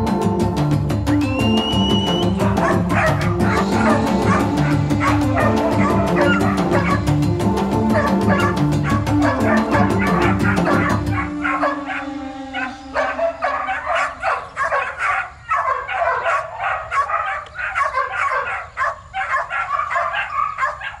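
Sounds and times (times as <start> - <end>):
dog yipping and barking: 2.1 - 7.1, 7.9 - 21.0.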